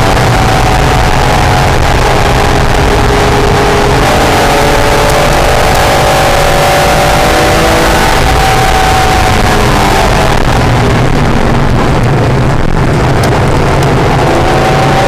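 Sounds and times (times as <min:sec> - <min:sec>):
car engine under load: 0:00.0 - 0:15.0
wind and road noise: 0:00.0 - 0:15.0.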